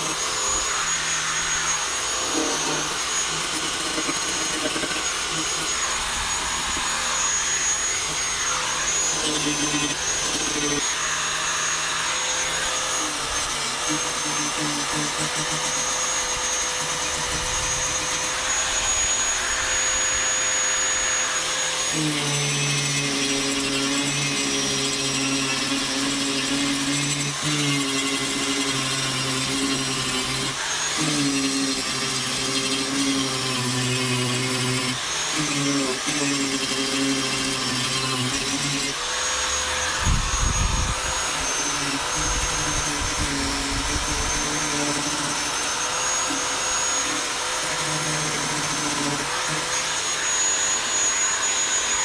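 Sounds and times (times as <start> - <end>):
rotary tool grinding: 0.0 - 52.0.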